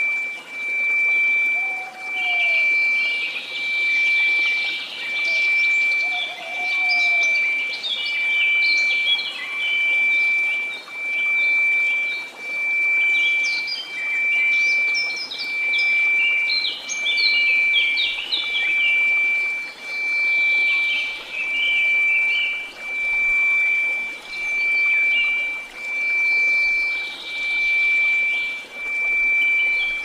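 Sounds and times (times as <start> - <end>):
birds chirping: 0.0 - 30.0
steady pure tone: 0.0 - 30.0.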